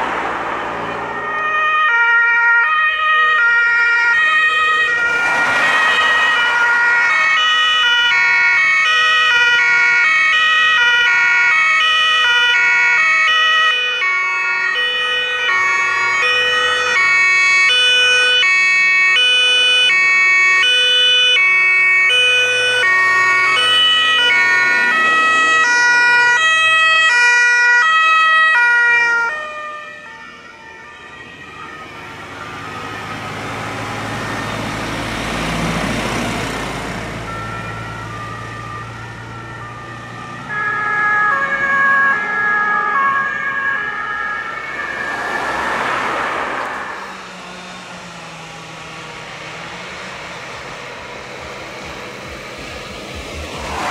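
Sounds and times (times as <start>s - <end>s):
passing car: 0.0s - 53.9s
two-tone emergency sirens: 0.0s - 53.9s.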